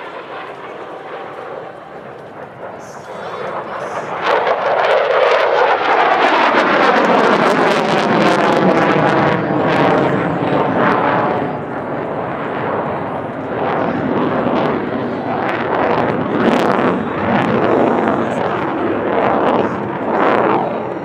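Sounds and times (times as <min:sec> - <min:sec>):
jet roar passing by: 0:00.0 - 0:21.0.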